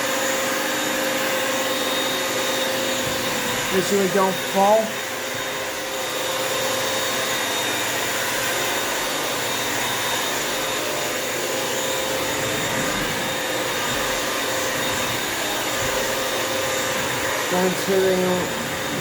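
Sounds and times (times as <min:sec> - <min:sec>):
vacuum mop running: 0:00.0 - 0:19.0.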